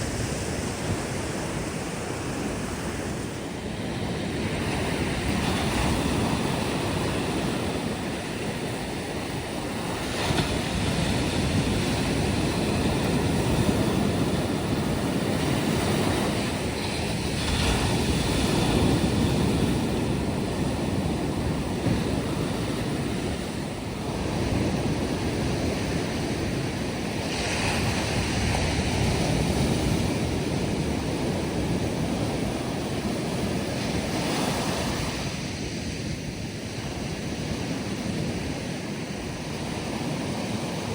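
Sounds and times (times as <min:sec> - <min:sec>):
sea waves breaking on beach: 0:00.0 - 0:40.9
wind on microphone: 0:00.0 - 0:40.9.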